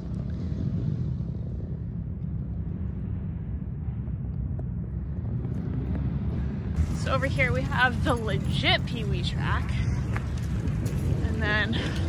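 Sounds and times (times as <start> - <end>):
distant dirt bike engines droning: 0.0 - 12.0.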